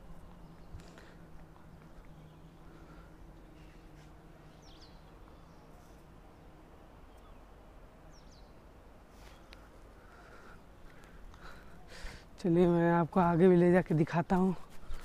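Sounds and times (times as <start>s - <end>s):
faint low hum: 0.0s - 12.8s.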